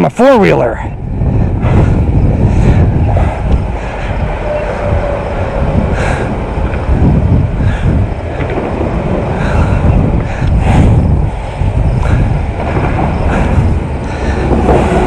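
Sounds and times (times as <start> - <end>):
motorcycle engine rumbling: 0.8 - 15.0.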